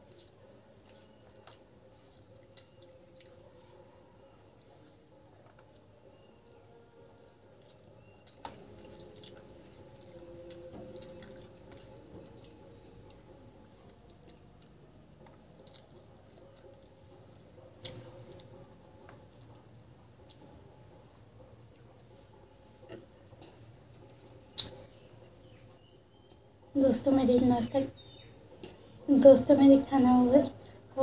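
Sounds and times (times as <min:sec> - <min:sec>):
soft wet chewing: 0:00.0 - 0:26.5, 0:30.5 - 0:30.9.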